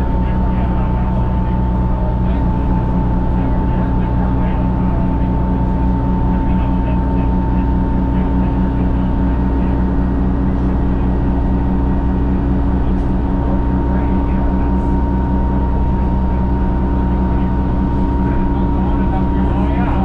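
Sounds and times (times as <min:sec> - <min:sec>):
bus diesel engine droning: 0:00.0 - 0:20.0
steady high whine: 0:00.0 - 0:20.0.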